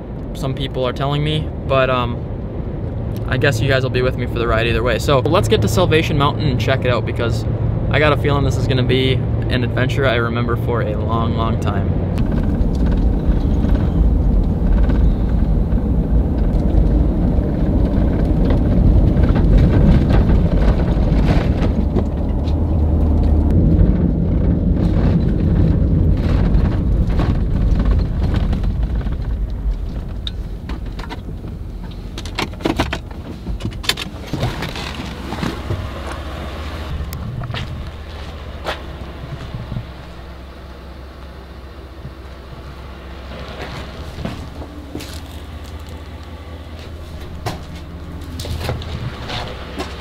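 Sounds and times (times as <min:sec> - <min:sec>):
engine and road noise rumble: 0:00.0 - 0:50.0.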